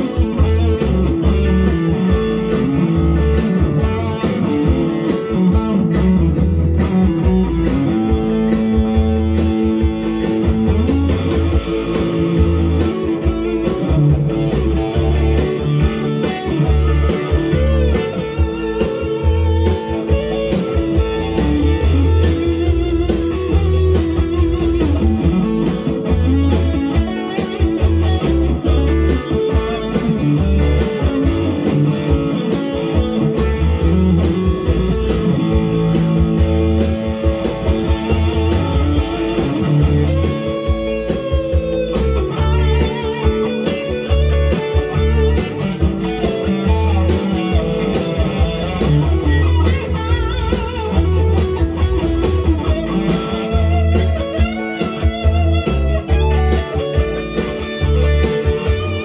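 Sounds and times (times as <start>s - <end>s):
country backing track: 0.0s - 59.0s
electric guitar playing country lead: 0.0s - 59.0s.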